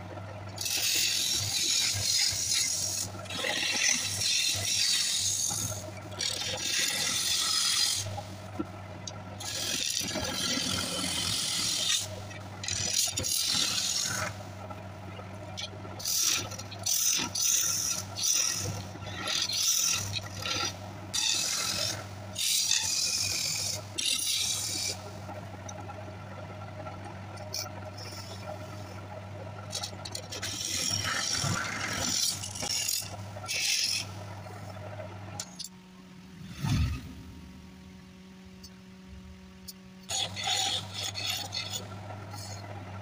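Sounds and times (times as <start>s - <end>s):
lathe motor hum: 0.0s - 43.0s.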